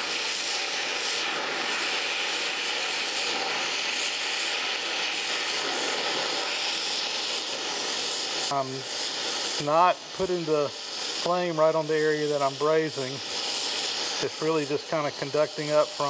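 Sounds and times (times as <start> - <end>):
welding torch flame hissing: 0.0 - 16.0.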